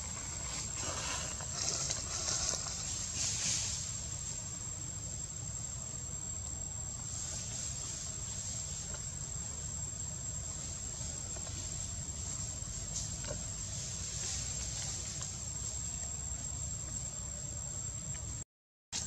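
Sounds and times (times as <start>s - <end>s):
insects chirring: 0.0s - 18.4s
low steady rumble: 0.0s - 18.4s.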